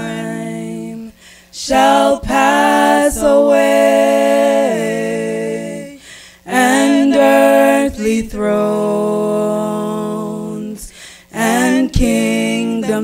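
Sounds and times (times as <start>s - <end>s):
vocal quartet singing a hymn: 0.0s - 13.0s.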